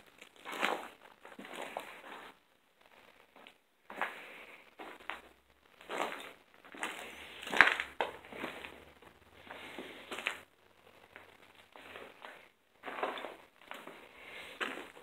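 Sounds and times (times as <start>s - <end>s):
footsteps crunching over debris: 0.0s - 15.0s.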